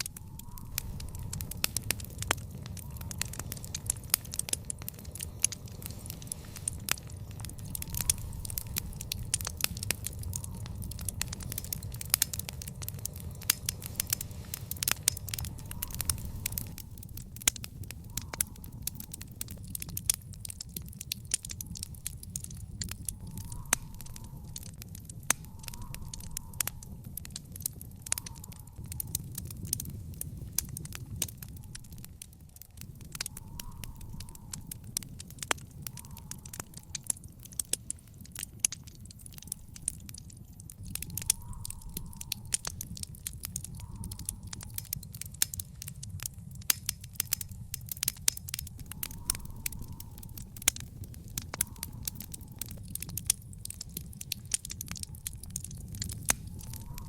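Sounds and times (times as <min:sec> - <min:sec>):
low rumble of burning: 0:00.0 - 0:57.0
wood fire crackling and popping: 0:00.0 - 0:57.0.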